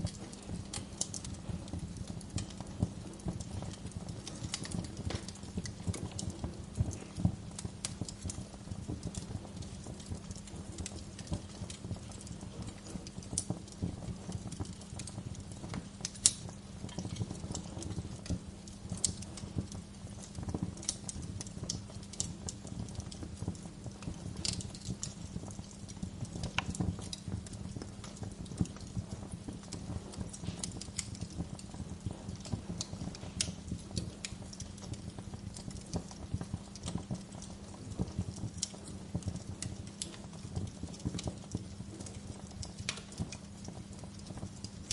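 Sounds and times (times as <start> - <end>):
fire crackling and popping: 0.0 - 44.9
low fire rumble: 0.0 - 44.9.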